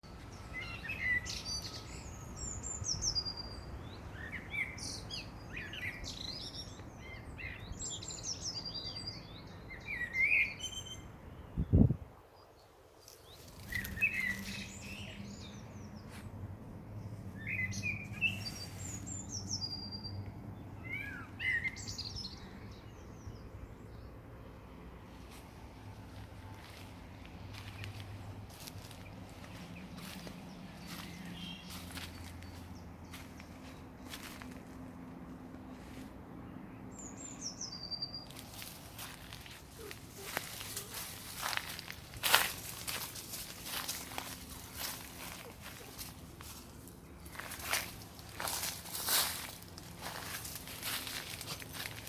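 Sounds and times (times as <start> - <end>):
garden birds singing: 0.0 - 52.0.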